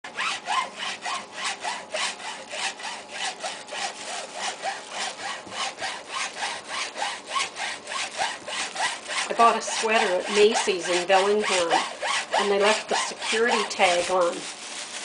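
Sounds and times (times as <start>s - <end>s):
hacksaw sawing plastic: 0.0s - 15.0s.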